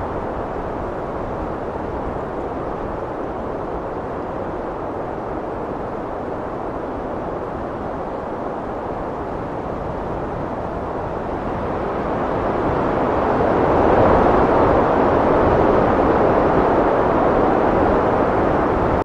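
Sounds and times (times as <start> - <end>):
heavy wind blowing: 0.0 - 19.0.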